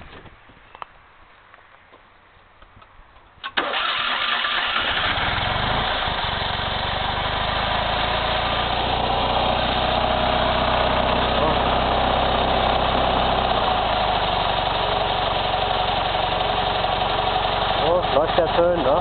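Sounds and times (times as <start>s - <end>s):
car engine starting and idling: 3.4s - 19.0s.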